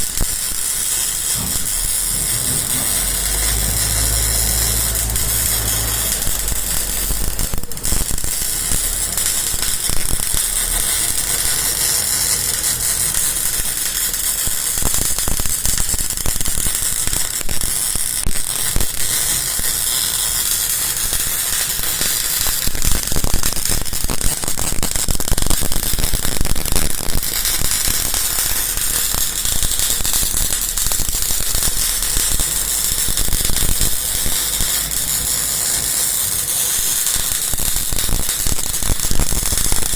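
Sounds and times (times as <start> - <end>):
welding arc crackling and popping: 0.0 - 39.9.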